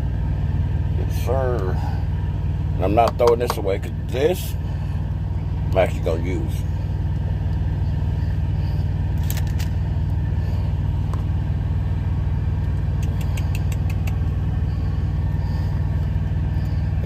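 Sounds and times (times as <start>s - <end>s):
idling truck hum: 0.0s - 17.0s.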